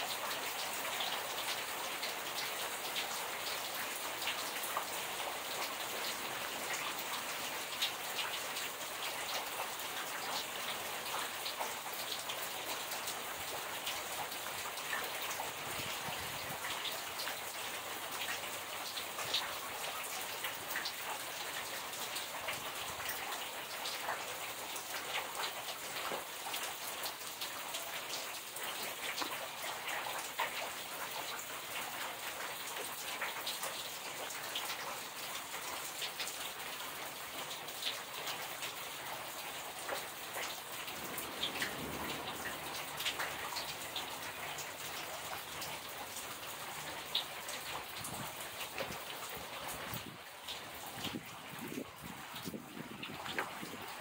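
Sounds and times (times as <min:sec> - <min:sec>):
rain falling on puddles: 0:00.0 - 0:54.0.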